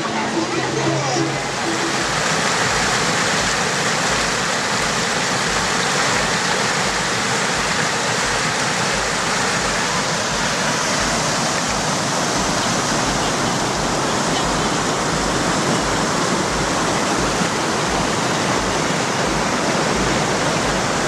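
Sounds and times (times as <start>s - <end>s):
river rapids roaring: 0.0s - 21.0s.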